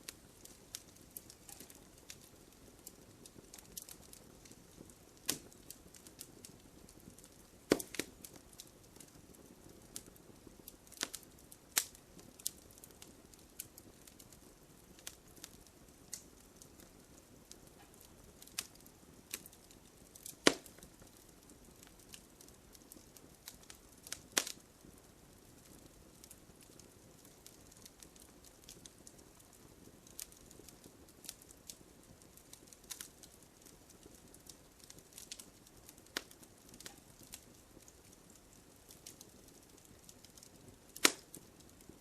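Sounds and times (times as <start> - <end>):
campfire crackling: 0.0 - 42.0
faint hiss: 0.0 - 42.0.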